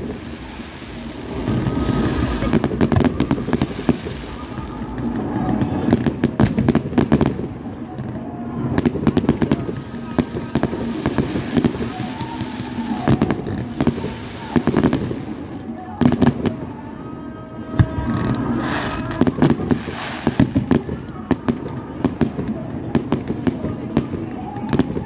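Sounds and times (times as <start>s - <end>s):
fireworks bursting: 0.0s - 25.0s
fireworks crackling: 0.0s - 25.0s.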